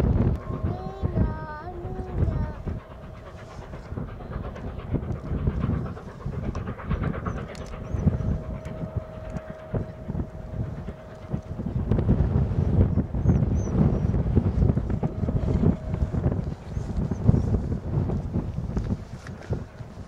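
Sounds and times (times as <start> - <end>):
distant steam locomotive: 0.0 - 20.0
wind gusting on microphone: 0.0 - 20.0.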